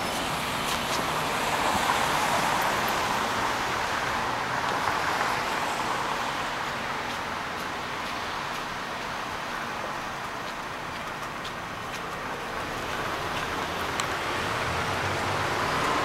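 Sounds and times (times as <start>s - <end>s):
city street traffic noise: 0.0s - 16.0s.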